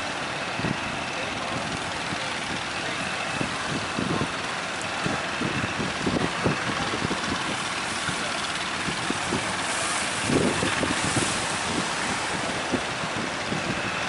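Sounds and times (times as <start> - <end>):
wind gusting against microphone: 0.0 - 14.0.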